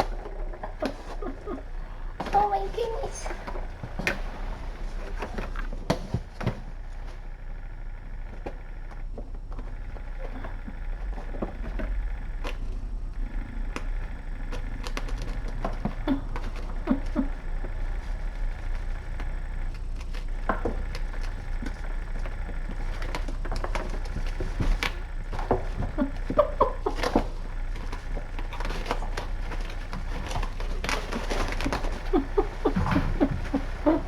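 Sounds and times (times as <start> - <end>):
kittens scampering and playing: 0.0 - 34.0
steady low hum: 0.0 - 34.0.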